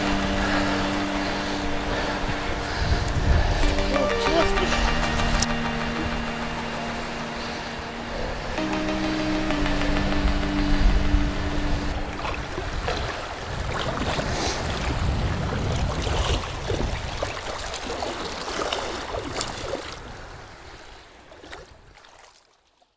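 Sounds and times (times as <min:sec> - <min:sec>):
surf water washing and splashing: 0:00.0 - 0:22.8.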